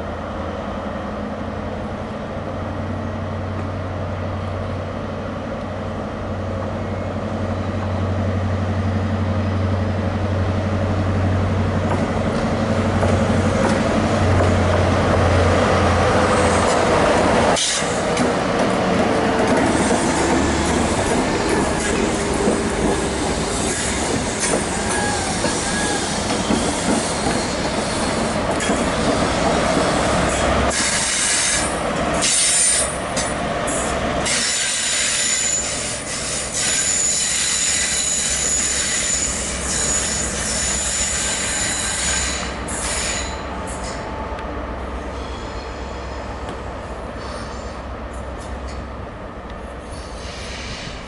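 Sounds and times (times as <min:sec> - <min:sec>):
diesel locomotive engine passing: 0:00.0 - 0:51.0
distant train approaching: 0:00.0 - 0:51.0
train coaches rolling past: 0:00.0 - 0:51.0.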